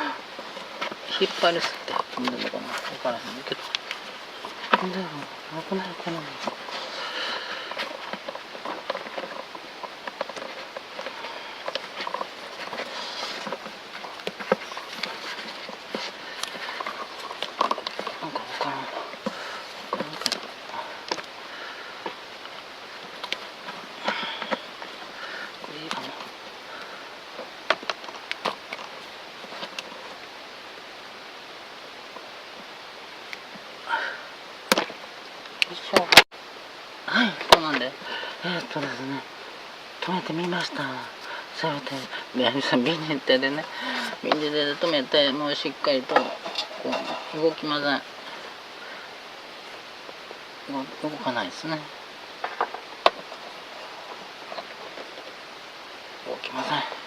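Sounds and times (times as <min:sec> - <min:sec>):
hands rustling hose and tape: 0:00.0 - 0:36.2, 0:37.3 - 0:57.0
steady hiss: 0:00.0 - 0:57.0.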